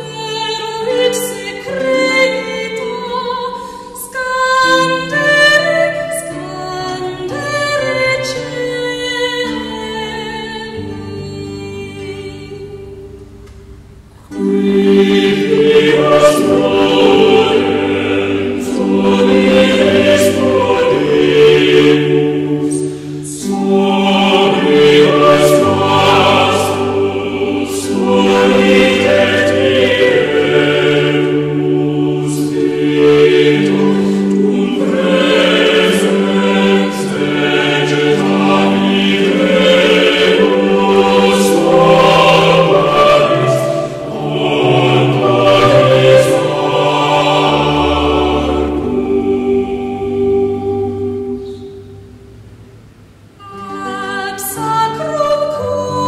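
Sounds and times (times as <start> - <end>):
choir singing held chords: 0.0 - 56.0.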